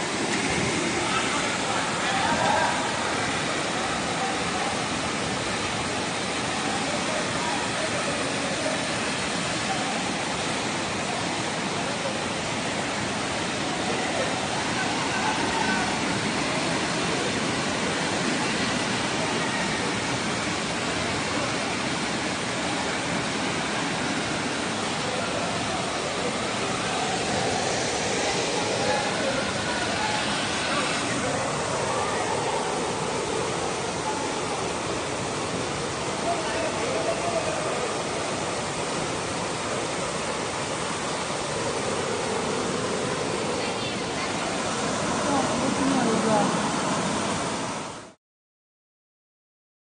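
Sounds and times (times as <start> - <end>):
floodwater rushing: 0.0 - 48.2.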